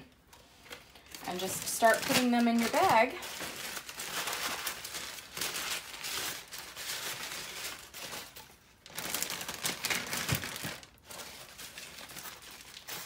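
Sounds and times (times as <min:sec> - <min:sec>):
plastic bag crinkling: 0:00.6 - 0:13.0.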